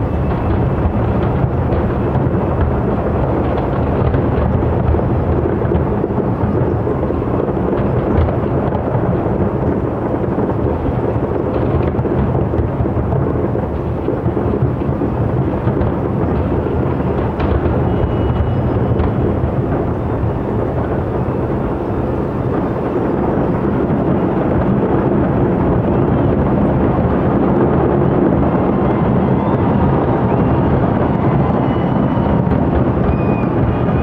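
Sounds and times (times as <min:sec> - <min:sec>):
distant fireworks rumble: 0:00.0 - 0:34.0.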